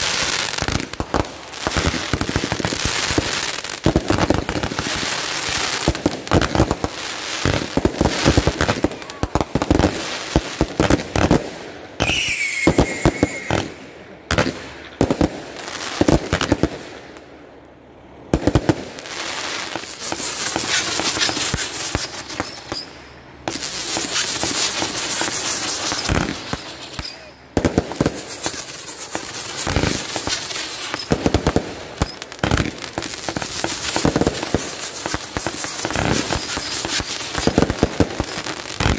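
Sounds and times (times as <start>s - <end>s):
fireworks hiss: 0.0s - 17.0s, 18.3s - 38.9s
fireworks crackling and popping: 0.0s - 38.9s.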